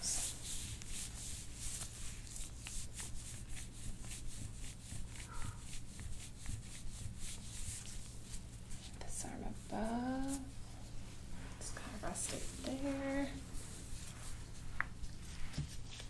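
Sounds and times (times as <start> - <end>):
hands rubbing skin in massage: 0.0 - 16.0.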